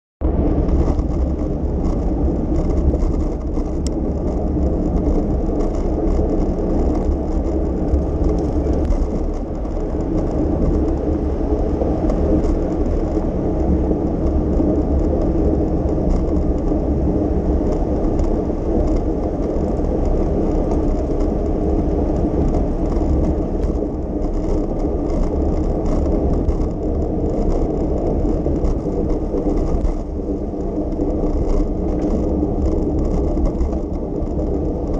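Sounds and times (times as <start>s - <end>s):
bicycle tyres rolling on road: 0.2s - 34.9s
wind on microphone: 0.2s - 34.9s.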